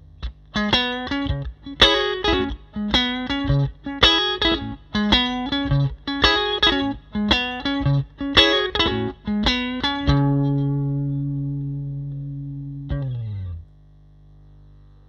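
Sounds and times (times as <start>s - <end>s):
electric guitar strummed chords: 0.0s - 13.6s.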